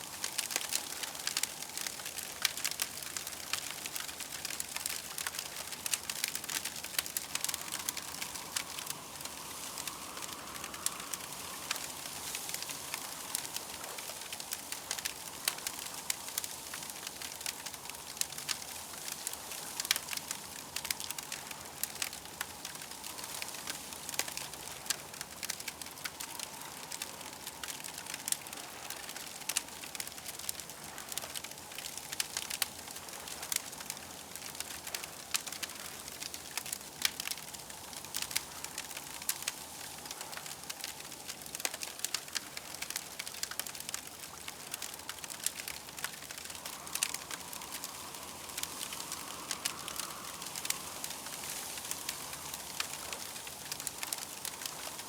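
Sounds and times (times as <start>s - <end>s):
campfire crackling and popping: 0.0s - 55.0s
steady hiss: 0.0s - 55.0s.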